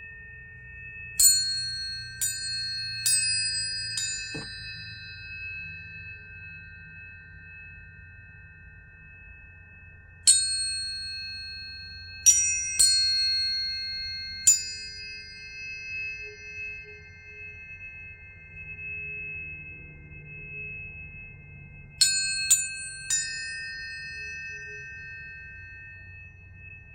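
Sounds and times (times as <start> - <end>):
tuning forks ringing: 0.0 - 26.9.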